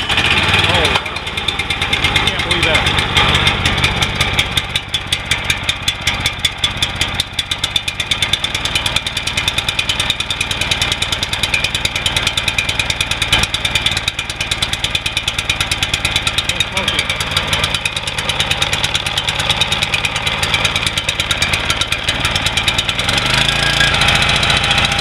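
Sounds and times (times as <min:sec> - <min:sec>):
generator engine running: 0:00.0 - 0:25.0.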